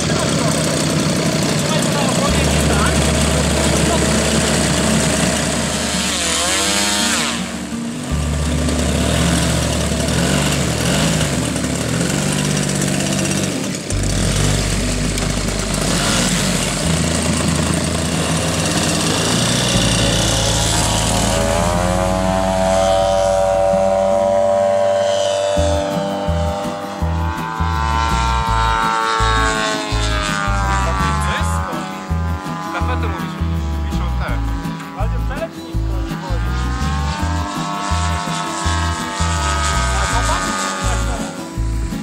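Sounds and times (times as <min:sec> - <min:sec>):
model plane propeller engine: 0:00.0 - 0:42.0.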